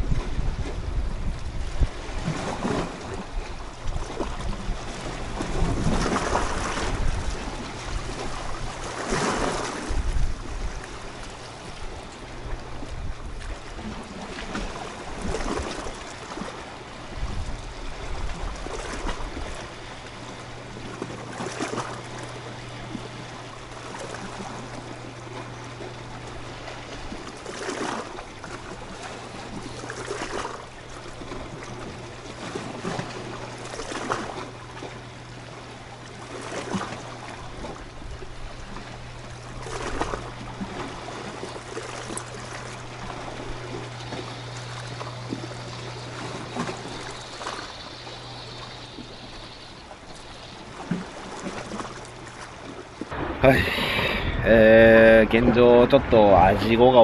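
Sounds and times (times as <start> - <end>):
steady low hum: 0.0 - 57.0
waves splashing against rocks: 0.0 - 57.0.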